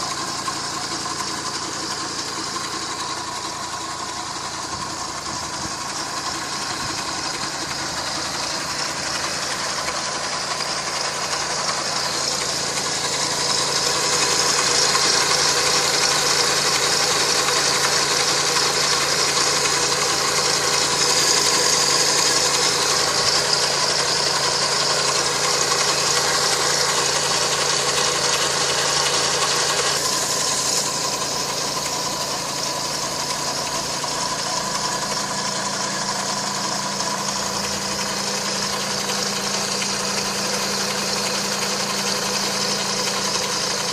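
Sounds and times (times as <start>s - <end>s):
car engine idling: 0.0s - 43.9s
strange engine noise: 0.0s - 43.9s.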